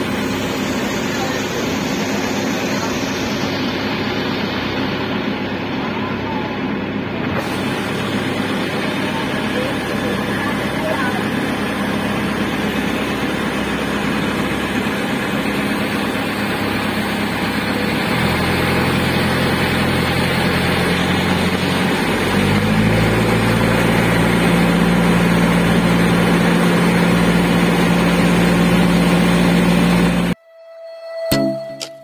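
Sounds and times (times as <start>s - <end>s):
water noise: 0.0s - 30.4s
boat engine droning: 0.0s - 32.0s.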